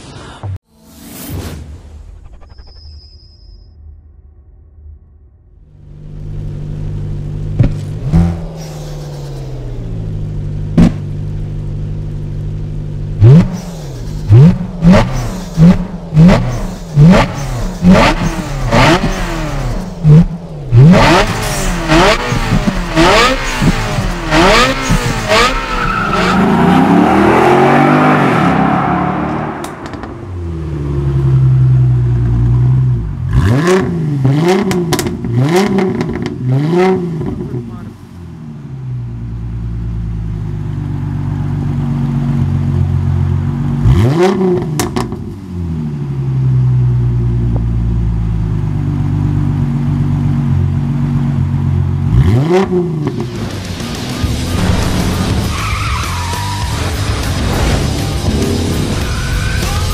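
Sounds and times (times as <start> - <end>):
car engine revving: 4.8 - 59.9.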